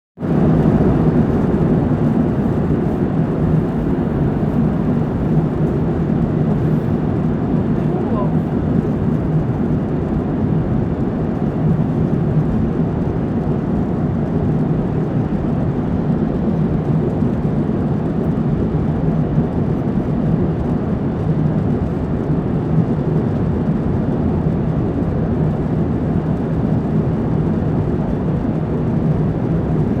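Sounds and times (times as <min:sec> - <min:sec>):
engine and airflow roar: 0:00.2 - 0:30.0
steady low hum: 0:00.2 - 0:30.0.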